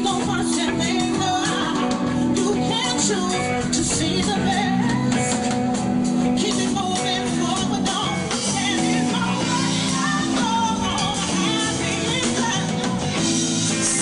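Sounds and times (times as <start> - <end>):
live band playing: 0.0 - 14.0
person singing: 0.0 - 14.0.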